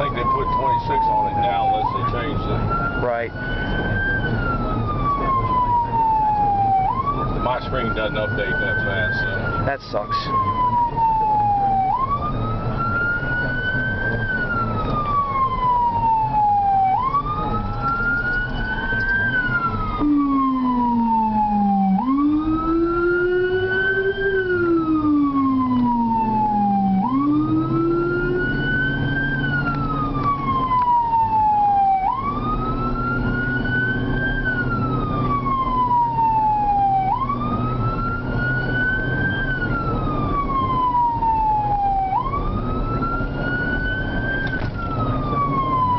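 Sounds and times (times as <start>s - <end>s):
fire engine siren wailing: 0.0s - 45.9s
low siren sweeping: 0.0s - 45.9s
vehicle engine rumble: 0.0s - 45.9s.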